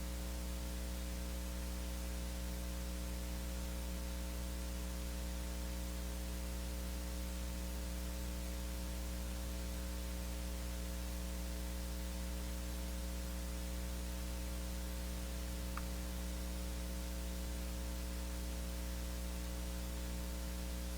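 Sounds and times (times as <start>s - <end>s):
electrical mains hum with hiss: 0.0s - 20.9s.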